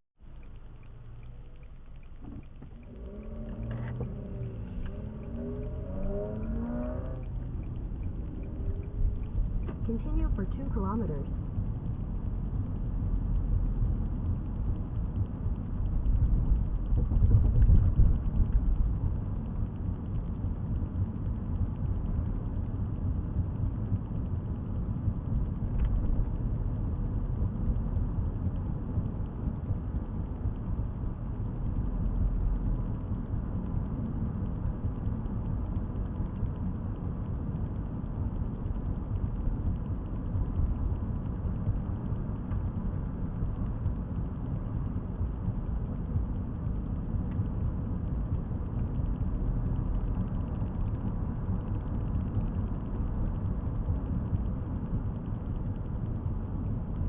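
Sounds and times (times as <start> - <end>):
car interior road and engine rumble: 0.2 - 57.0.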